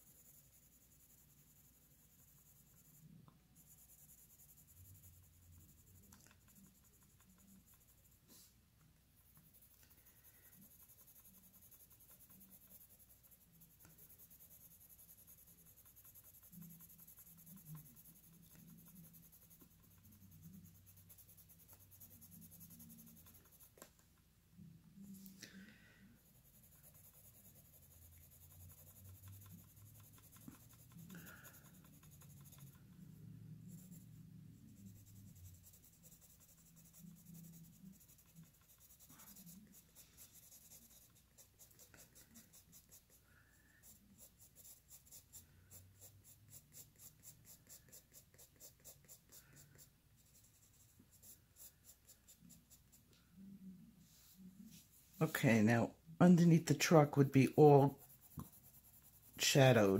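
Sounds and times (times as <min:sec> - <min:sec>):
colored pencil scratching paper: 0:00.0 - 0:59.9.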